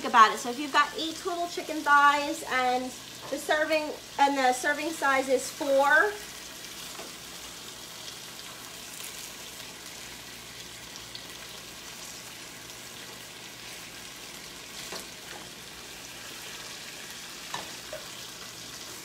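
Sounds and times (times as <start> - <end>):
chicken sizzling in skillet: 0.0 - 19.0.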